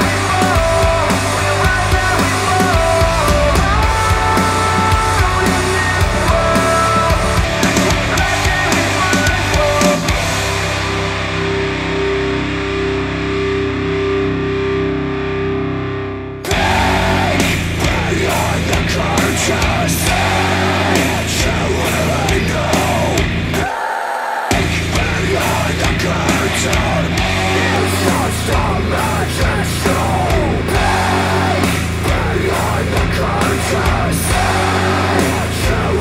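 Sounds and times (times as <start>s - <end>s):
hard rock music with electric guitar: 0.0s - 36.0s.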